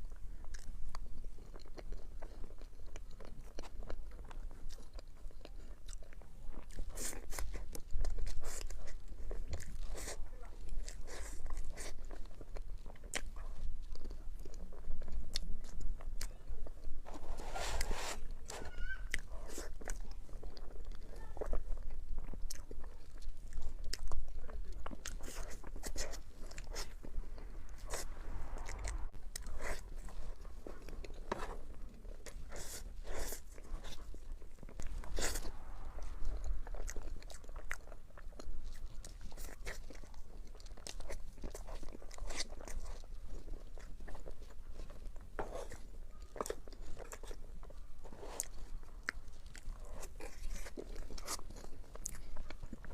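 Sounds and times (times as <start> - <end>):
crunchy food crunching: 0.0 - 52.9
soft chewing: 0.0 - 52.9.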